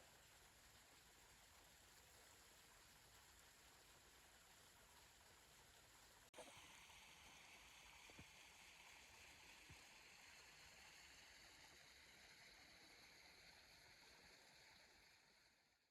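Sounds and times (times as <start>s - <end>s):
faint steady hiss: 0.0s - 15.8s.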